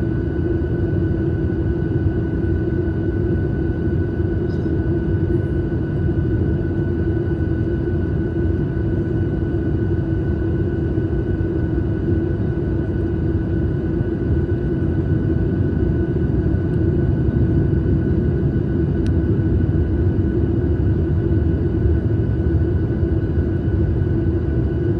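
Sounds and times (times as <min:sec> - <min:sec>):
airliner cabin engine drone: 0:00.0 - 0:24.9.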